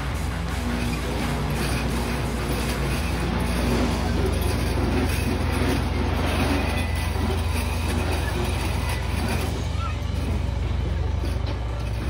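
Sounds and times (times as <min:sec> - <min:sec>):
spinning metal rollers rattling: 0:00.0 - 0:12.0.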